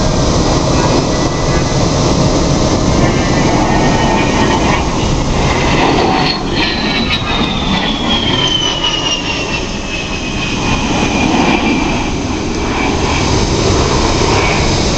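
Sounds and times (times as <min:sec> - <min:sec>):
high whine falling in pitch: 0:00.0 - 0:14.9
jet aircraft flying overhead: 0:00.0 - 0:14.9.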